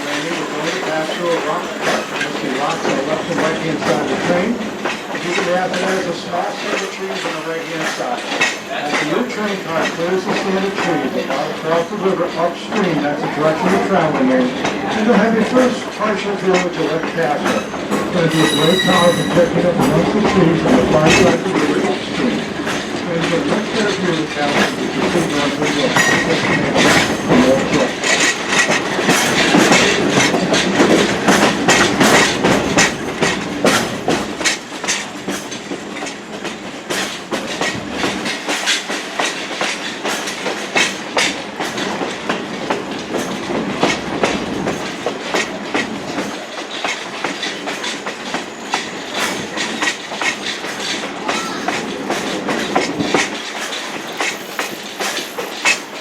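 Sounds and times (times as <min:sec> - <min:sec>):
train coach rumble: 0:00.0 - 0:56.0
train wheels clattering over rail joints: 0:00.0 - 0:56.0.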